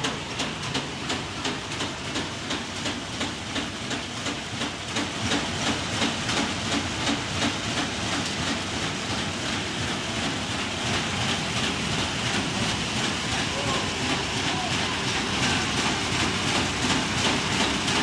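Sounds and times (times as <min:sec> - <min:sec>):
hum of rollers and drive: 0:00.0 - 0:18.0
machine clatter with regular knock: 0:00.0 - 0:18.0.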